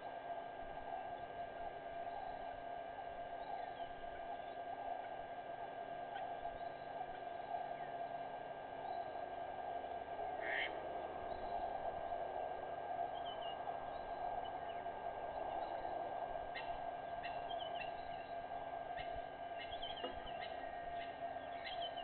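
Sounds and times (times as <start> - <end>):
steady background drone: 0.0 - 22.0.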